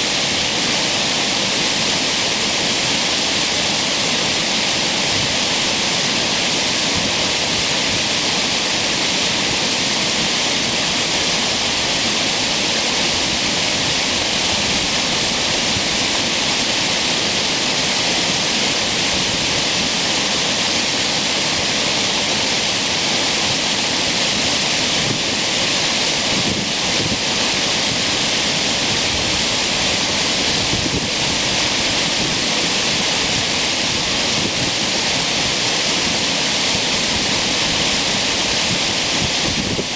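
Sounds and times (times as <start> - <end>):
roar of falling water: 0.0 - 39.9.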